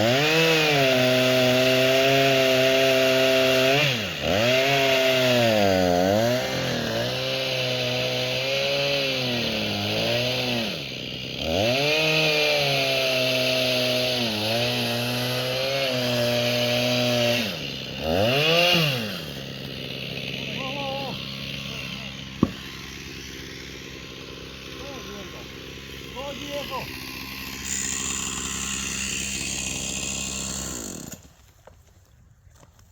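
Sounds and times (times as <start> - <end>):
chainsaw running: 0.0 - 31.9.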